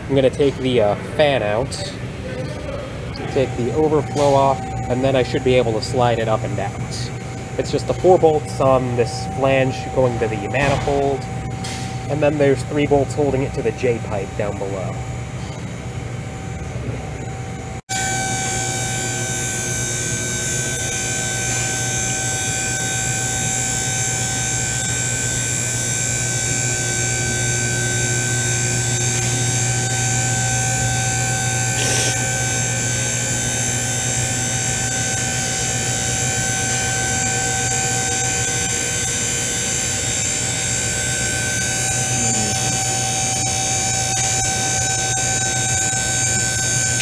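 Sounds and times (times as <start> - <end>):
hydraulic pump motor humming: 0.0 - 47.0.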